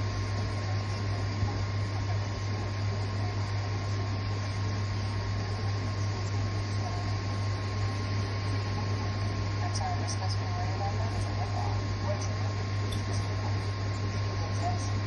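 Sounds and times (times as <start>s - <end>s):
projector cooling fan whirring: 0.0s - 15.0s.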